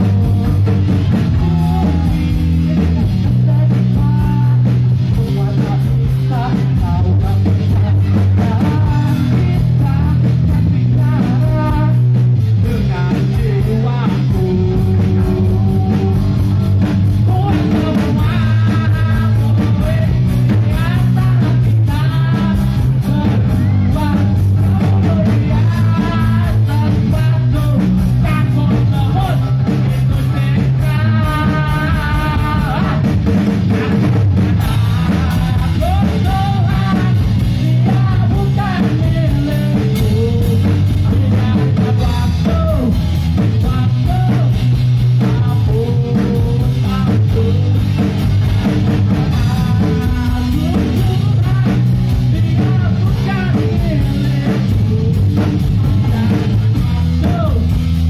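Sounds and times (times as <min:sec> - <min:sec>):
drum kit: 0:00.0 - 0:58.0
electric guitars: 0:00.0 - 0:58.0
male singer: 0:00.0 - 0:58.0.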